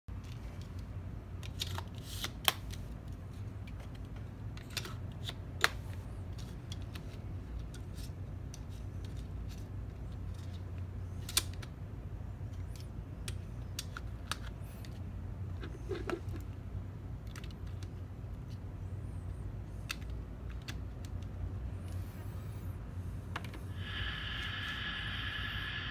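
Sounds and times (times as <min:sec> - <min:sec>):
steady low hum: 0:02.8 - 0:25.9.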